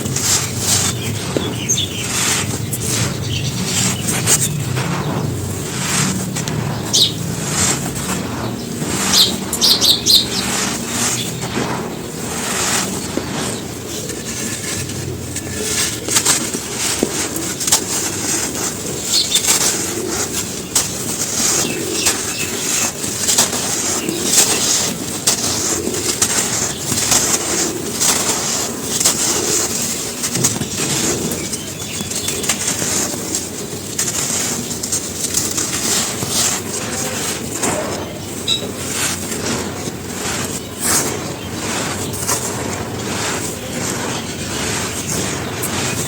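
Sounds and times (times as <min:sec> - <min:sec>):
charcoal ash crunching: 0:00.0 - 0:46.0.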